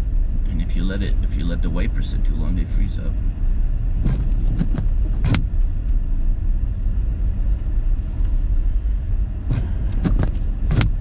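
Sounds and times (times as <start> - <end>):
car driving rumble from cabin: 0.0 - 11.0.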